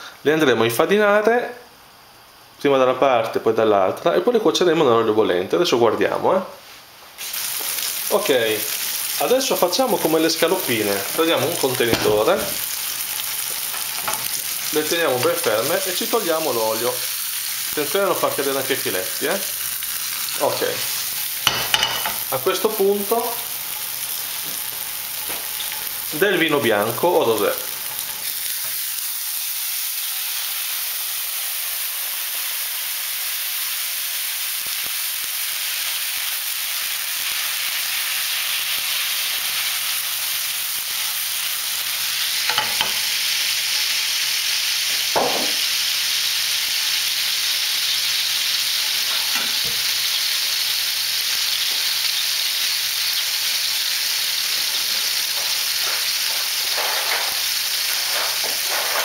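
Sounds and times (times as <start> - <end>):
fish sizzling in a frying pan: 7.2 - 59.0.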